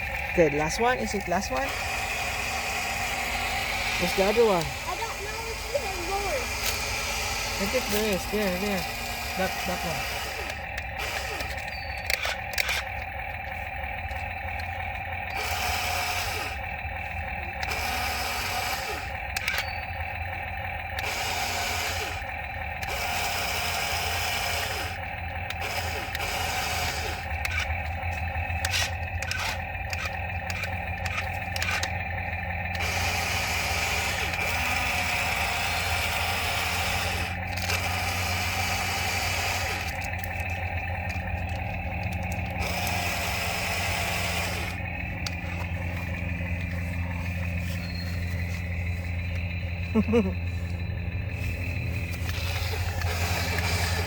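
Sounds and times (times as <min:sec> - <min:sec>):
sharp clicks: 0:00.0 - 0:54.0
small electric motors whining: 0:00.0 - 0:54.0.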